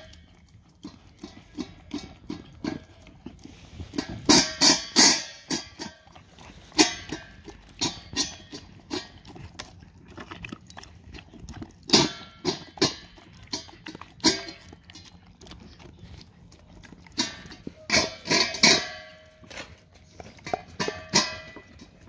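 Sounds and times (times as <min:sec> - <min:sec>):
dog chewing food: 0:00.0 - 0:22.0
food against metal bowl: 0:00.0 - 0:22.0.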